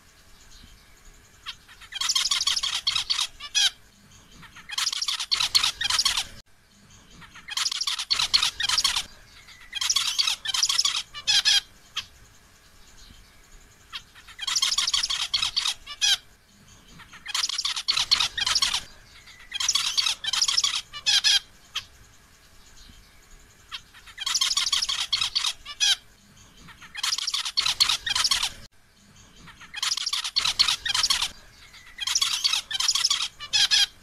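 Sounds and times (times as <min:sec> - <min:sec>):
finch singing: 0:00.0 - 0:34.0.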